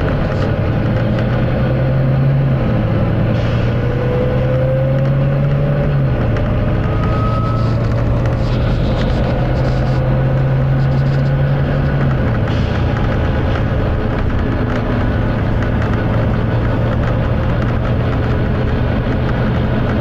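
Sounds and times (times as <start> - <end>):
bus diesel engine driving: 0.0 - 20.0
drivetrain whine: 0.0 - 20.0.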